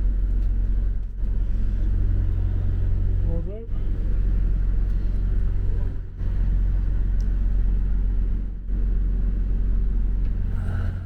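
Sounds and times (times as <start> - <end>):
boat engine droning hum: 0.0 - 11.0.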